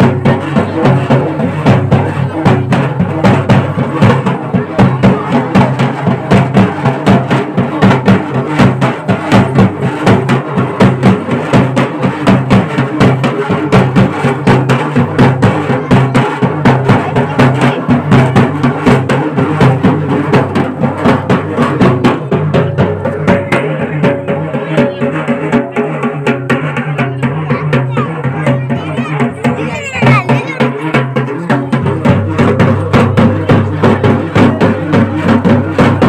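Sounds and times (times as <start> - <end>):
fast drum strokes: 0.0 - 36.0.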